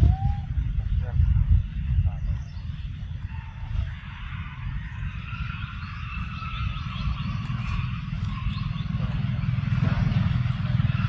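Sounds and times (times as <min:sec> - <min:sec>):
pulsing motor rumble: 0:00.0 - 0:11.0.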